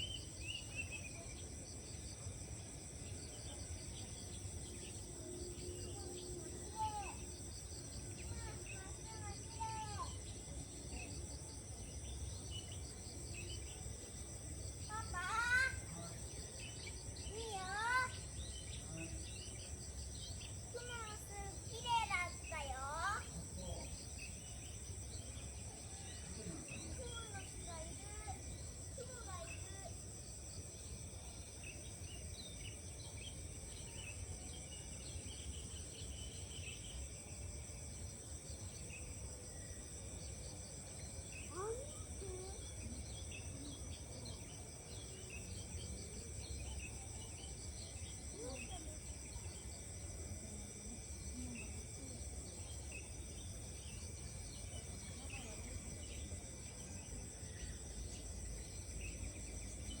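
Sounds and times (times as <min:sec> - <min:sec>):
crickets chirping: 0:00.0 - 1:00.0.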